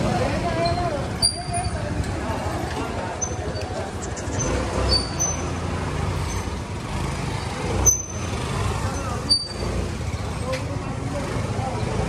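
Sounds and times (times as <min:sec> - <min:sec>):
motorbike traffic rumble: 0:00.0 - 0:12.0.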